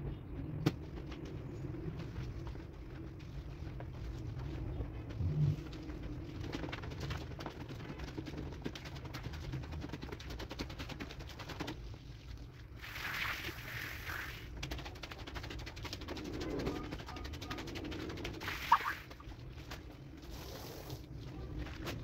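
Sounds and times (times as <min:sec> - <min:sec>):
scrub brush on wet rug: 0:01.9 - 0:22.0.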